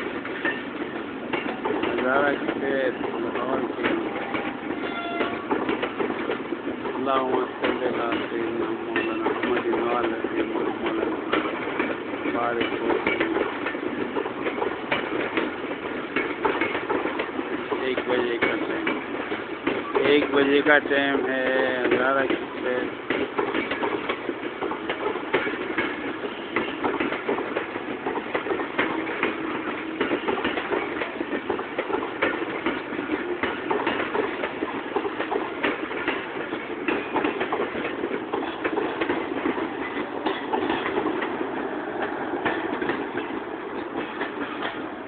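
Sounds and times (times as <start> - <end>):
train wheels rumbling on rail: 0.0 - 45.0
wheels clattering over rail joints: 0.0 - 45.0.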